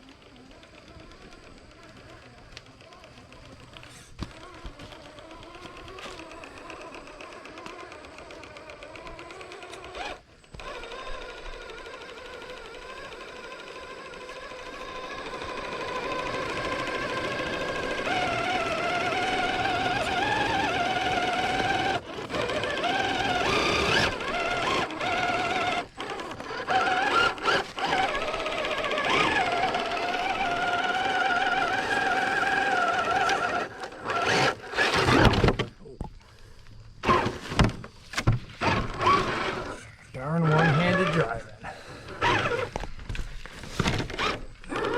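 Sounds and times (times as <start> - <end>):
toy car electric motor whining: 0.0 - 44.9.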